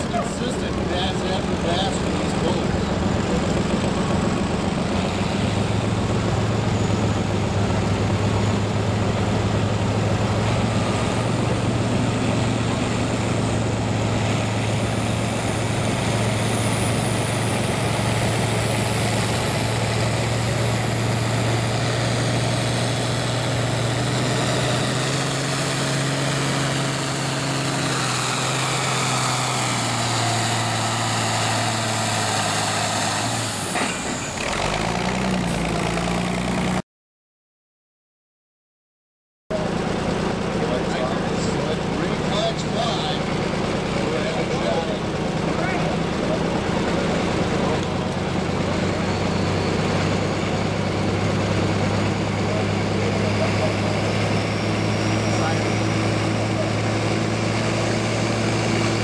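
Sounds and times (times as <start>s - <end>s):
tractor engine under load: 0.0s - 36.8s, 39.5s - 59.0s.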